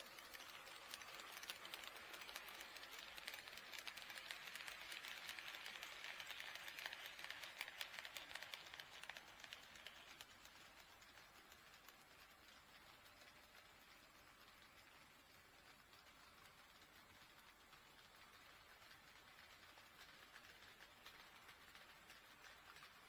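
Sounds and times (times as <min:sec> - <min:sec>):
model train wheels clicking: 0:00.0 - 0:23.0.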